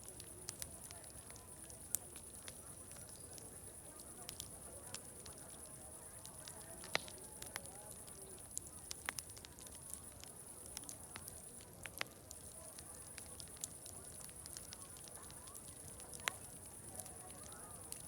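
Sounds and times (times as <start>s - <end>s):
faint distant crowd chatter: 0.0s - 18.0s
sharp pops of fire: 0.0s - 18.0s
wood fire crackling: 0.0s - 18.0s.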